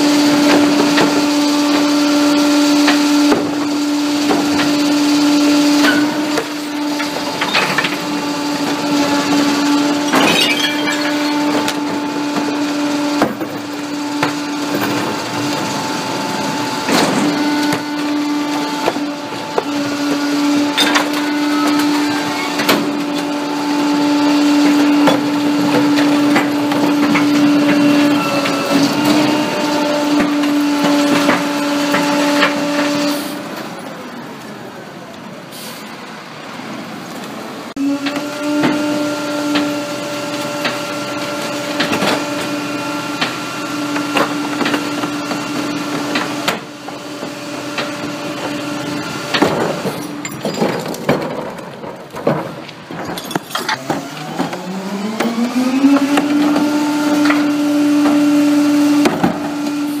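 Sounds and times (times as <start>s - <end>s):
metal cart and hopper clanks: 0.0s - 33.8s, 38.0s - 60.0s
truck hydraulic pump whine: 0.0s - 60.0s.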